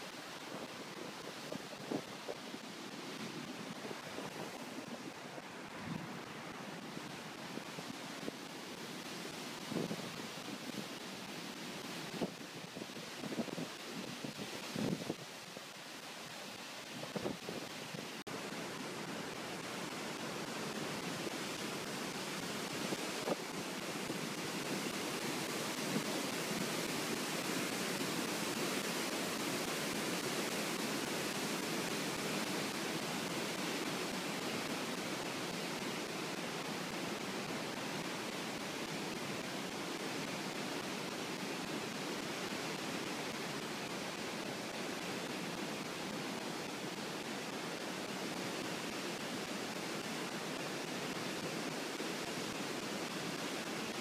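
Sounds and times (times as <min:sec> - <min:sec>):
floodwater rushing through weir: 0:00.0 - 0:54.0.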